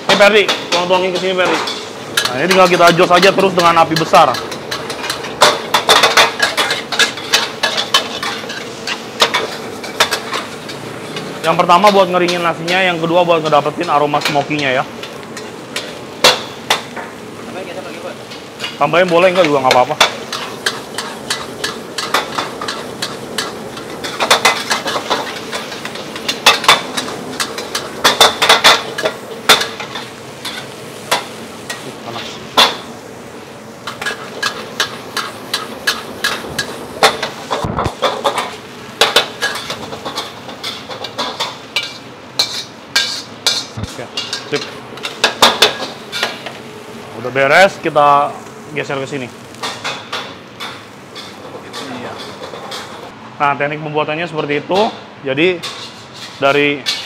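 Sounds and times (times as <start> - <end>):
metal spatulas clanging on woks: 0.0 - 17.1, 17.8 - 32.9, 33.8 - 46.6, 49.6 - 53.1, 54.7 - 57.0
steady sizzle: 0.0 - 57.0.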